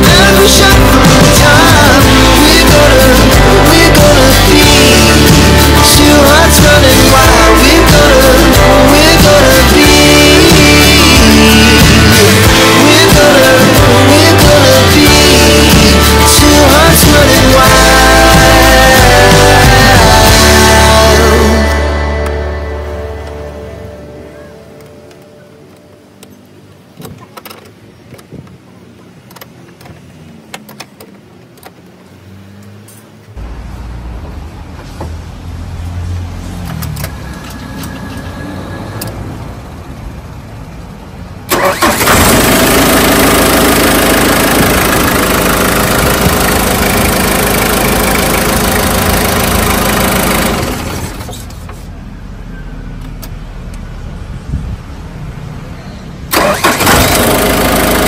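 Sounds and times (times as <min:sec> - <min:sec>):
diesel engine starting and idling: 0:00.0 - 0:27.9, 0:33.3 - 0:58.0.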